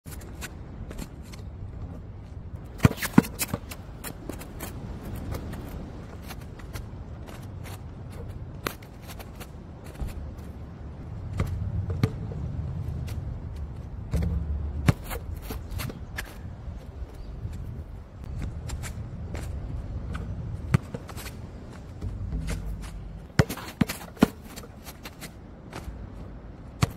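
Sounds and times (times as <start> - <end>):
steady low rumble: 3.7 - 26.8.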